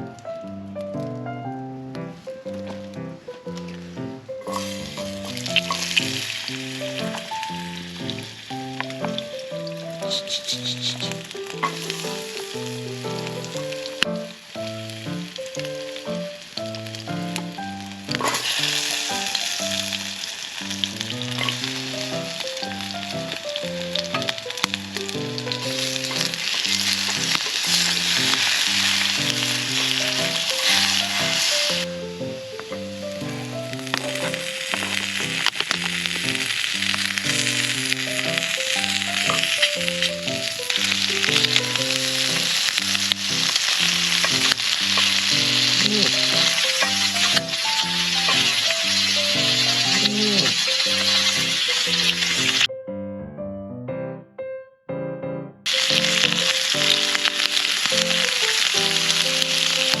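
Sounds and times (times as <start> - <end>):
background music with simple melody: 0.0 - 20.3, 21.2 - 28.6, 29.2 - 60.0
food sizzling in a hot pan: 4.4 - 52.7, 55.7 - 60.0.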